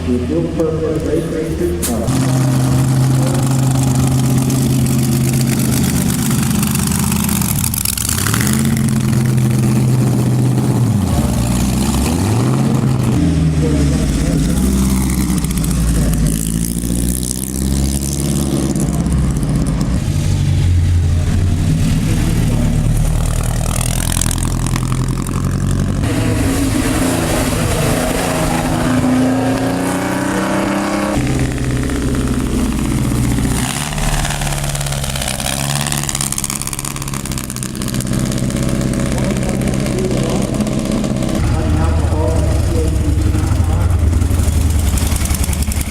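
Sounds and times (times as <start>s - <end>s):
racecar engines revving past: 0.0s - 45.9s.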